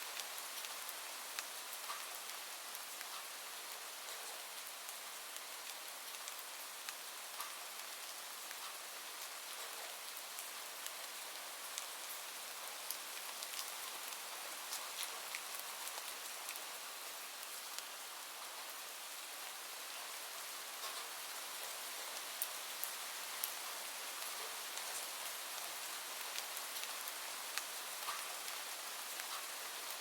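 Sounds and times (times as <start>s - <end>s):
steady rain hiss: 0.0s - 30.0s
raindrops ticking on surface: 0.1s - 30.0s.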